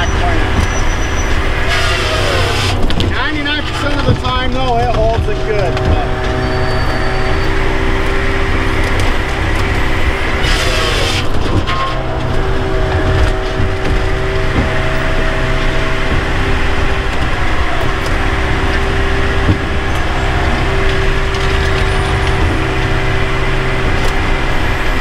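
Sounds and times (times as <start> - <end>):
engine and hydraulics droning: 0.0 - 25.0.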